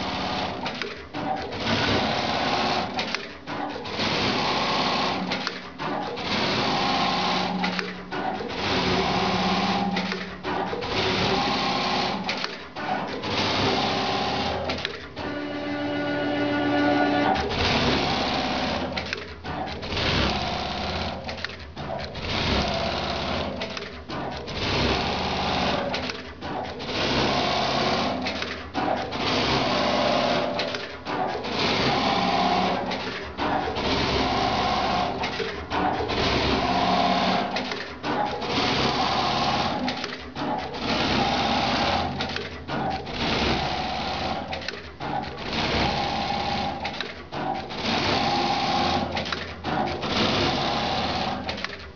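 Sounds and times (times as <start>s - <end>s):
sewing machine stitching: 0.0s - 51.9s.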